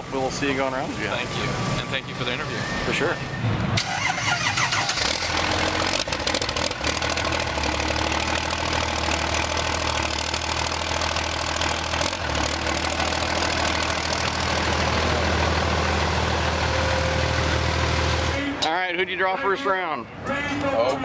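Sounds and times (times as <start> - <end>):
diesel truck idling: 0.0 - 20.5.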